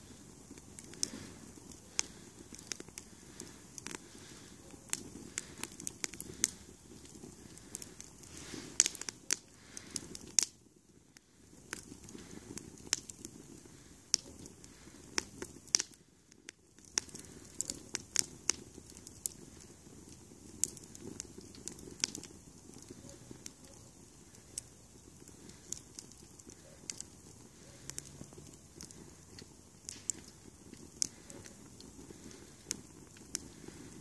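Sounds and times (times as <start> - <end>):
fire crackling and popping: 0.0 - 34.0
steady flame noise: 0.0 - 34.0.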